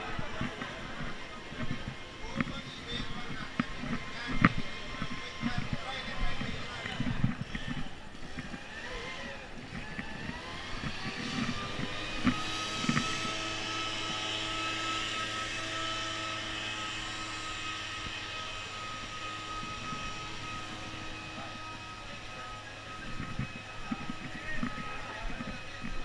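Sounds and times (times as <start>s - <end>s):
motor humming and whining: 0.0s - 26.0s.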